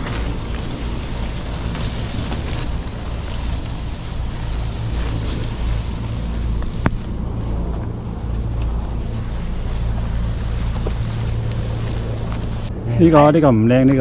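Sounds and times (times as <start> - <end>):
wind buffeting microphone: 0.0 - 13.3.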